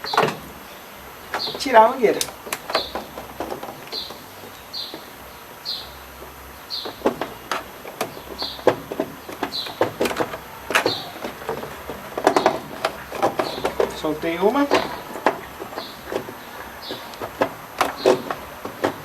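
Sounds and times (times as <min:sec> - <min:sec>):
hoses and clamps clicking: 0:01.3 - 0:05.3, 0:06.1 - 0:19.0.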